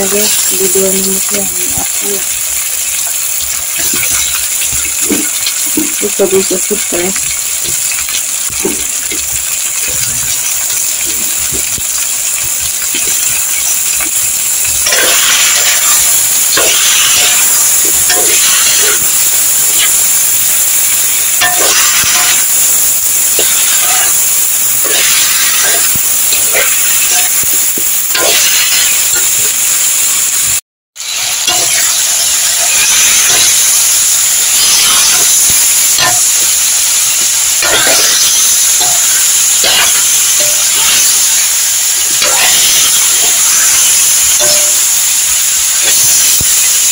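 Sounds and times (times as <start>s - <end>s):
vegetables sizzling in hot oil: 0.0s - 46.9s
spatula scraping a pan: 7.2s - 29.3s, 31.0s - 46.9s.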